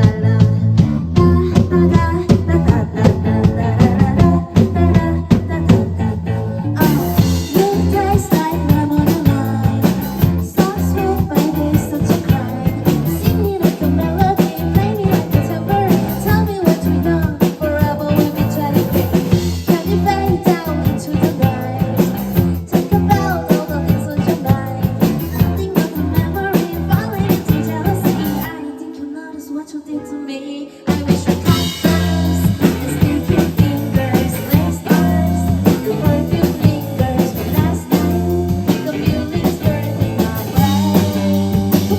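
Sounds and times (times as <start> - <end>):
rock band playing: 0.0 - 28.8, 30.9 - 41.9.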